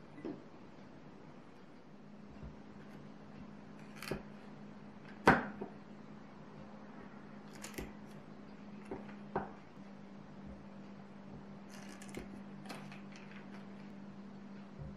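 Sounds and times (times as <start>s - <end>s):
faint hum: 0.0s - 14.9s.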